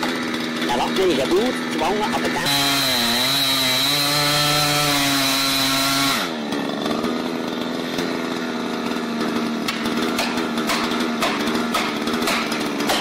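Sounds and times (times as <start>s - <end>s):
chainsaw cutting tree trunk: 0.0s - 13.0s.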